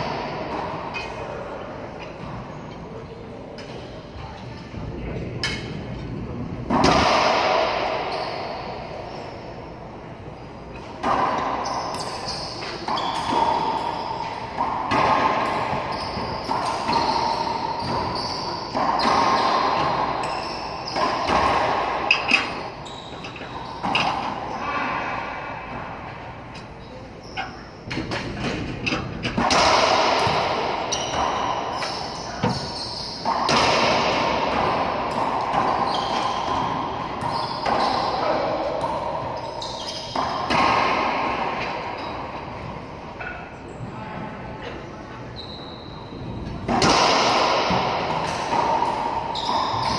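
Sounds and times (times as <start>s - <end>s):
racquetball hits echoing: 0.0s - 4.3s, 5.4s - 43.6s, 45.4s - 49.9s.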